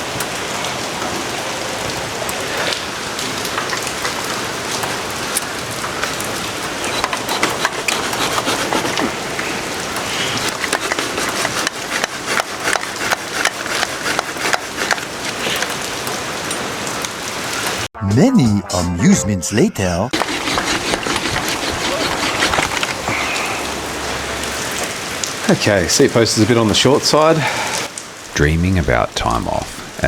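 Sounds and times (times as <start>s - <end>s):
steady rain falling: 0.0s - 17.9s, 21.6s - 30.0s.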